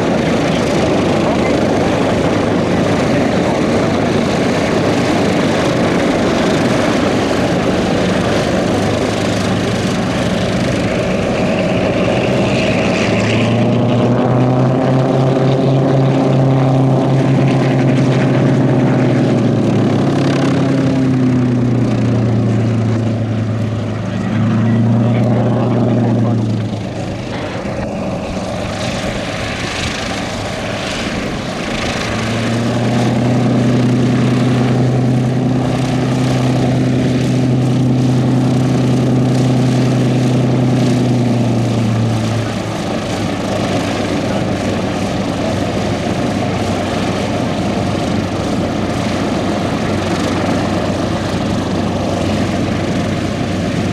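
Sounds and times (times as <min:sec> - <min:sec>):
aircraft engines droning: 0:00.0 - 0:53.9.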